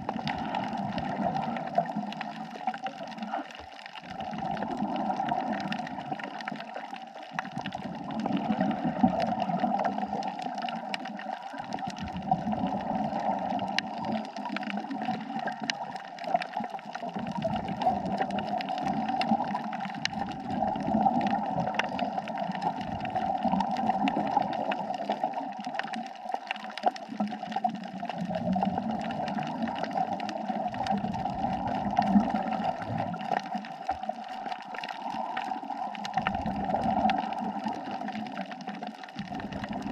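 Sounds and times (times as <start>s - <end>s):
steady underwater hiss: 0.0s - 3.6s, 4.2s - 39.9s
underwater bubbles gurgling: 0.0s - 39.9s.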